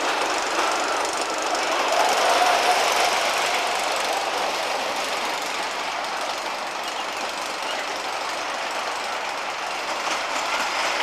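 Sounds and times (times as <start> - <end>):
roller coaster rattling on track: 0.0 - 11.0.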